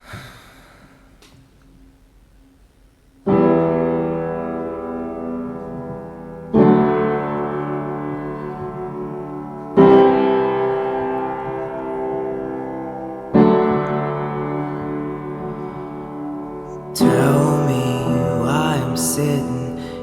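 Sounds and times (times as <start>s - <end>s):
slow piano chords: 3.2s - 20.0s.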